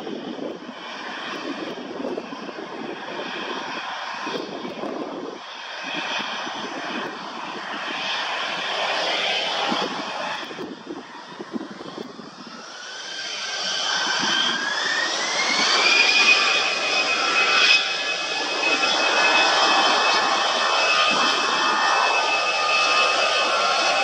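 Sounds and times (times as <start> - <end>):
jet engines spooling up: 0.0 - 24.0.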